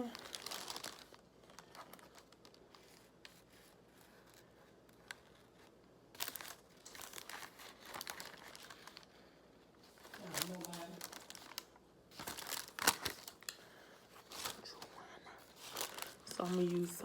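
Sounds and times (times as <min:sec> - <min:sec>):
paper packaging crinkling: 0:00.0 - 0:17.0.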